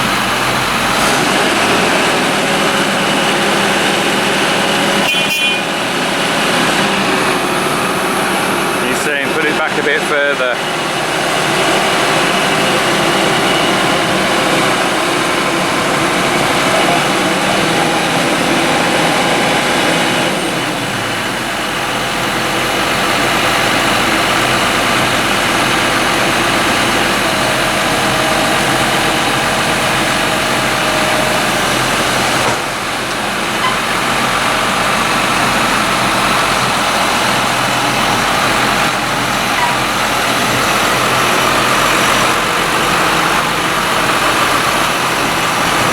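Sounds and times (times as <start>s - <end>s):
heavy farm machinery engines: 0.0s - 45.9s.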